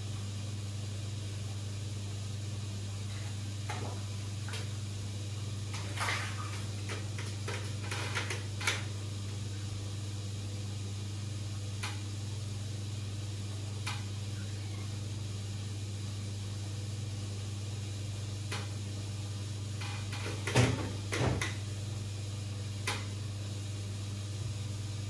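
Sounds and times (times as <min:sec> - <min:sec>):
aquarium equipment humming: 0:00.0 - 0:25.0.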